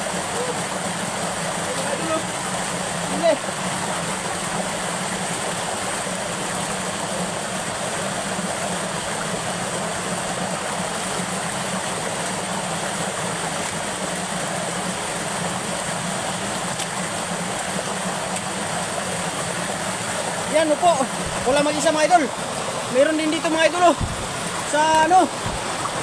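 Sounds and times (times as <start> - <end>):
water rushing over spillway: 0.0 - 26.0.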